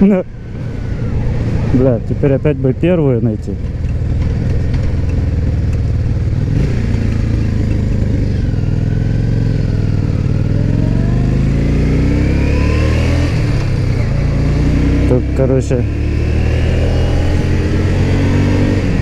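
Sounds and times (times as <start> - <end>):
motorcycle engine accelerating: 0.3 - 19.0.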